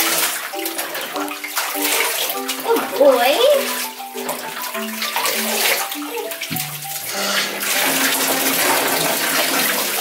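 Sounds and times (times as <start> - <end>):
light background music: 0.0 - 10.0
water splashing in bathtub: 0.0 - 10.0.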